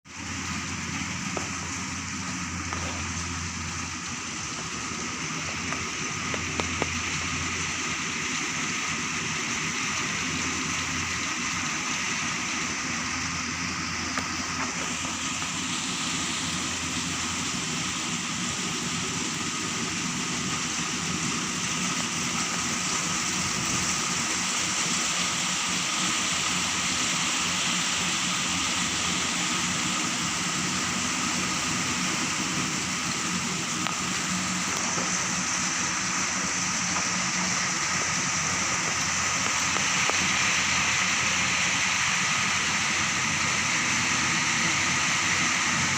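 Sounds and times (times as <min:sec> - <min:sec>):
combine harvester droning: 0:00.1 - 0:45.9
rain hissing: 0:00.1 - 0:45.9.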